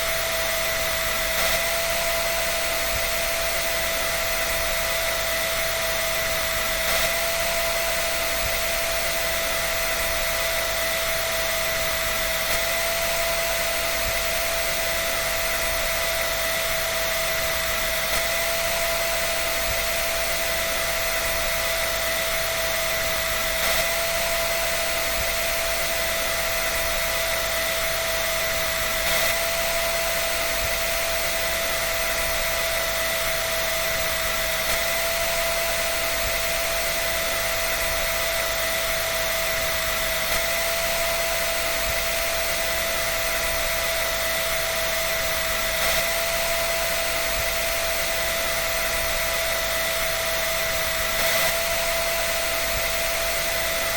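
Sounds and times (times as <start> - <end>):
electric dryer running: 0.0 - 53.9.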